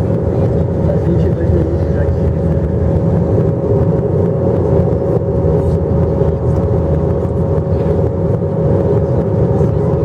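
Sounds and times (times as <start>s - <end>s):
constant hum: 0.0s - 10.0s
jet engine drone: 0.0s - 10.0s.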